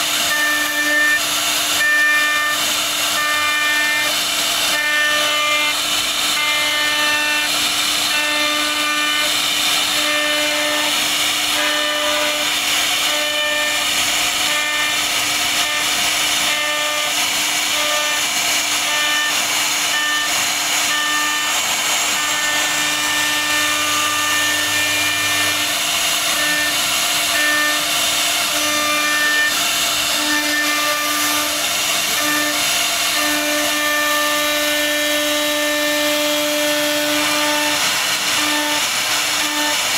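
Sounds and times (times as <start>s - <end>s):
router spindle cutting wood: 0.0s - 39.9s.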